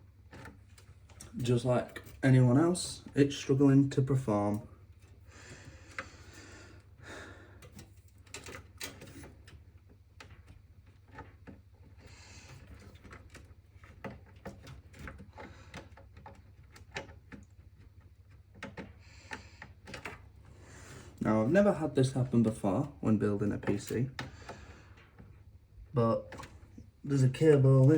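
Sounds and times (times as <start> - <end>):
cables clicking against metal case: 0.1 - 3.3, 4.5 - 27.9.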